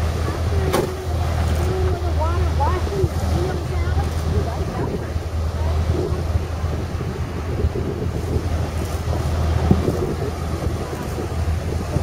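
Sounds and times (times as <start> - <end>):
engine running at low revs: 0.0 - 12.0
wind buffeting microphone: 0.0 - 12.0.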